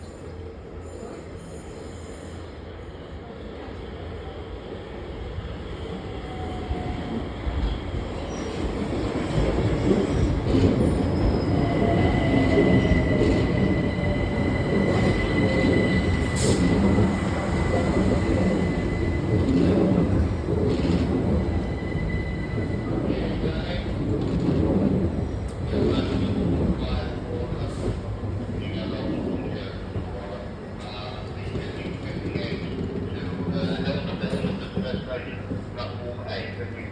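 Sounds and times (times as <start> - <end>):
train rumble: 3.6 - 36.9.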